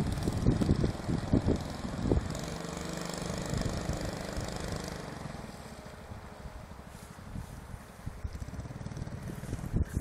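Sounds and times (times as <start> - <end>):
small boat engine running: 0.0 - 6.8, 8.0 - 10.0
wind buffeting microphone: 0.0 - 10.0.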